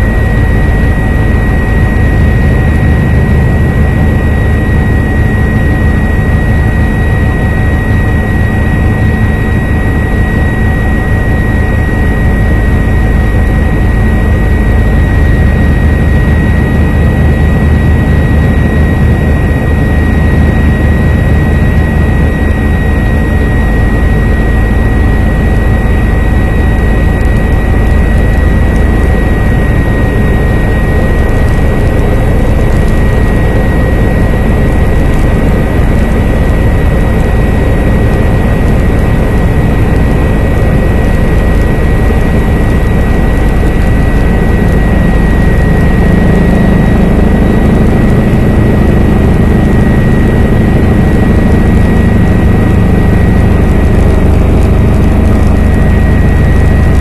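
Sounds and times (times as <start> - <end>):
helicopter rotor and engine noise: 0.0 - 57.0
high-pitched whine: 0.0 - 57.0.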